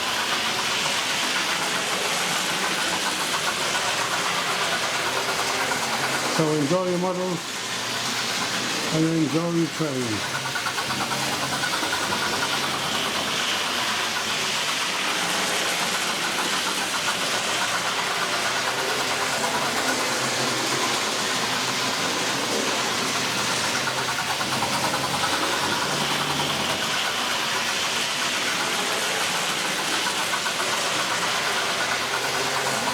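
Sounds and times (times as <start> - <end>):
model locomotive running: 0.0 - 32.9
steam engine sound effects: 0.0 - 32.9.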